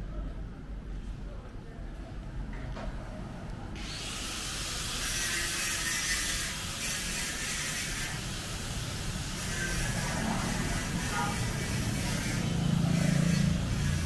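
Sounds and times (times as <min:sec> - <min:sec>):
passing traffic: 0:02.2 - 0:14.0.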